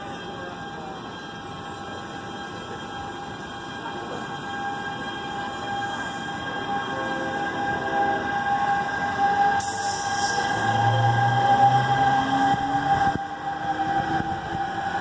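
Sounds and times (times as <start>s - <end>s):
train rumbling along tracks: 0.0s - 15.0s.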